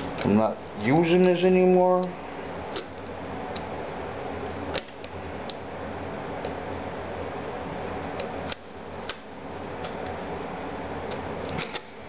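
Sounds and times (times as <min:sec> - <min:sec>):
fan whirring with low hum: 0:00.0 - 0:12.0.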